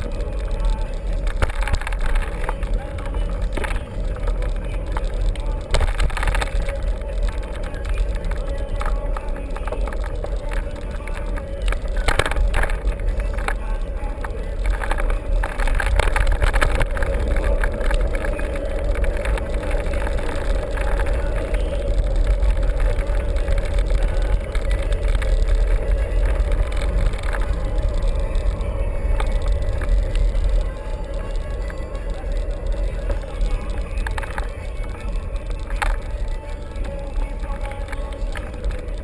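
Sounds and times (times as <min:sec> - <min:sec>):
bike rattles and clicks: 0:00.0 - 0:39.0.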